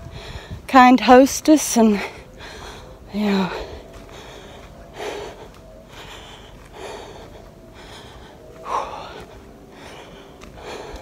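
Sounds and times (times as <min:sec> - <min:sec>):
woman gasping for breath: 0:02.0 - 0:11.0.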